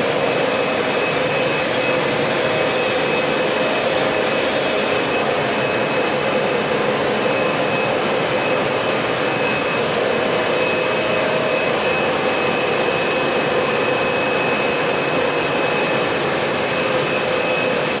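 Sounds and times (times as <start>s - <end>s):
floor cleaning machine running: 0.0s - 18.0s.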